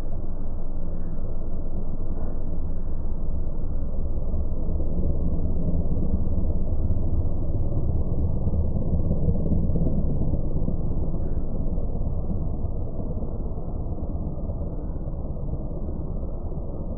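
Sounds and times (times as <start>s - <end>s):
slowed-down plane engine rumble: 0.0s - 16.9s.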